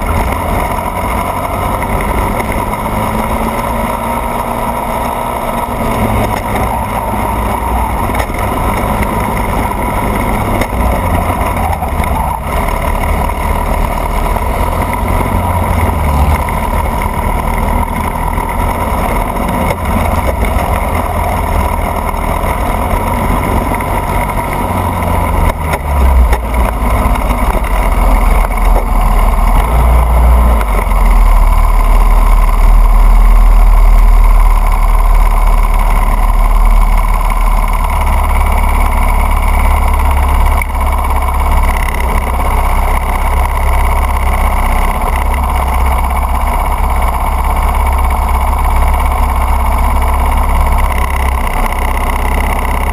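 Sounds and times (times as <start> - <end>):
kart engine running: 0.0 - 52.9.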